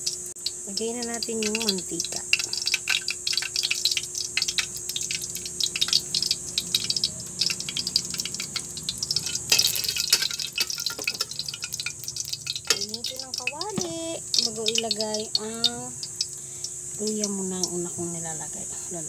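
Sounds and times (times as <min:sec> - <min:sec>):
oil crackling in a wok: 0:00.0 - 0:18.0
oil hissing: 0:00.0 - 0:18.2.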